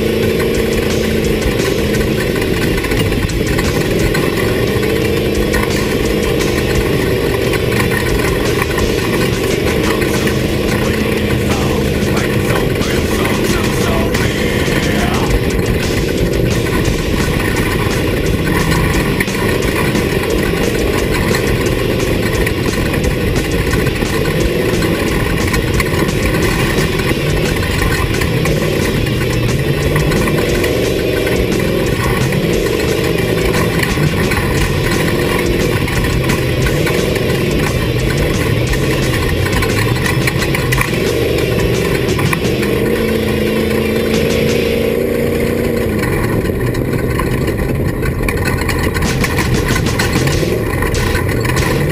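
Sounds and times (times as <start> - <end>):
race vehicle engine revving: 0.0 - 51.9
rattles and knocks: 0.0 - 51.9
road noise: 0.0 - 51.9.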